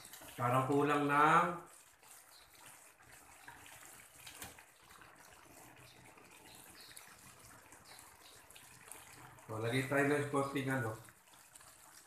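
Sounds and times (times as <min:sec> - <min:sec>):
food simmering in a pan: 0:00.0 - 0:12.0.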